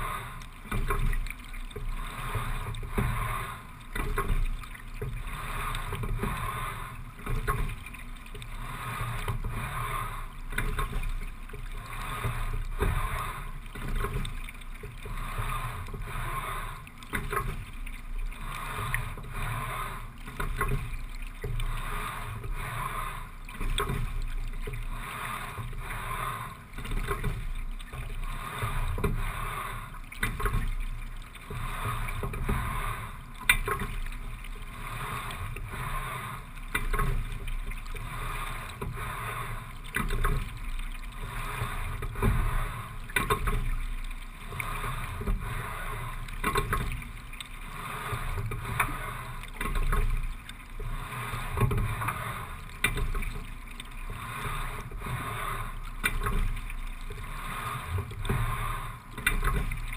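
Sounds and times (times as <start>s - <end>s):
water rushing along hull: 0.0s - 59.9s.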